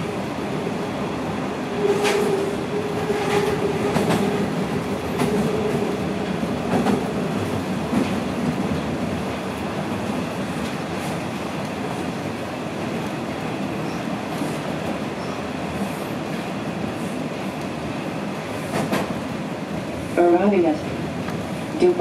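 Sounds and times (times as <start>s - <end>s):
subway train rumble in tunnel: 0.0s - 22.0s.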